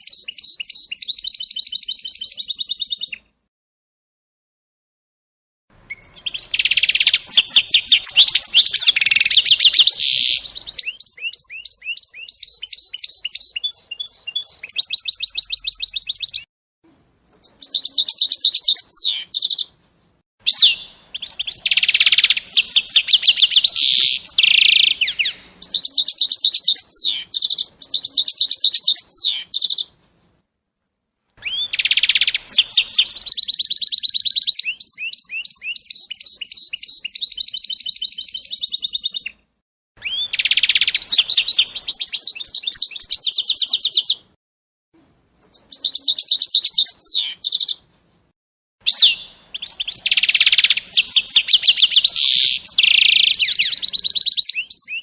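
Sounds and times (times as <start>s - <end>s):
songbird trilling and warbling: 0.0s - 3.2s, 5.9s - 16.5s, 17.3s - 19.7s, 20.5s - 29.9s, 31.4s - 39.4s, 40.0s - 44.3s, 45.4s - 47.8s, 48.9s - 55.0s.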